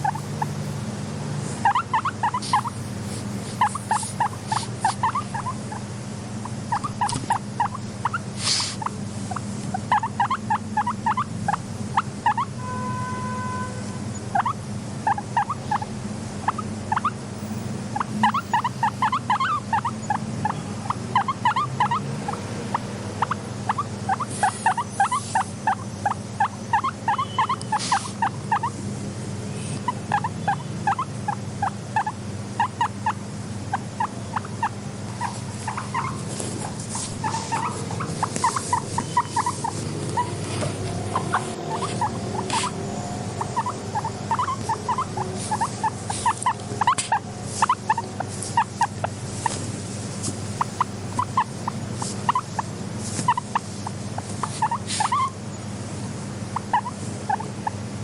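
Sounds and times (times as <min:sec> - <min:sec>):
guinea pigs squeaking: 0:00.0 - 0:00.8, 0:01.4 - 0:12.7, 0:14.1 - 0:28.8, 0:29.6 - 0:57.8
steady low hum: 0:00.0 - 0:58.0.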